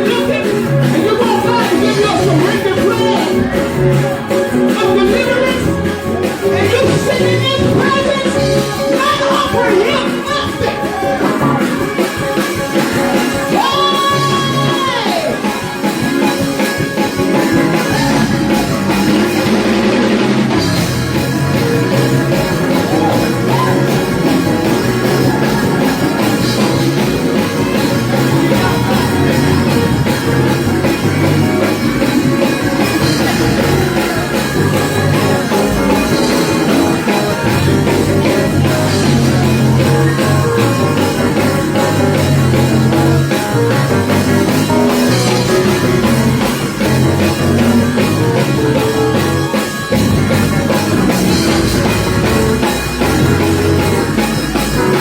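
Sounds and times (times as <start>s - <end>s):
band music with singing: 0.0s - 55.0s
drum kit: 0.0s - 55.0s.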